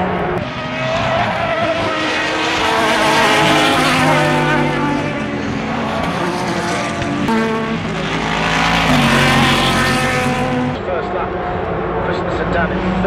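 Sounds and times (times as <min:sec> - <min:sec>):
racing cars passing at speed: 0:00.0 - 0:13.0.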